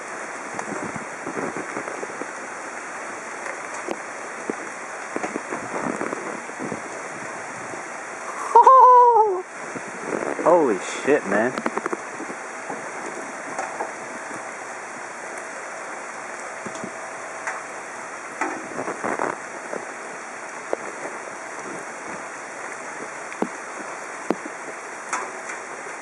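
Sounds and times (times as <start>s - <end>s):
sharp ticks and splashes: 0.0s - 8.6s, 9.6s - 26.0s
heavy rain: 0.0s - 26.0s
running floodwater: 0.0s - 26.0s.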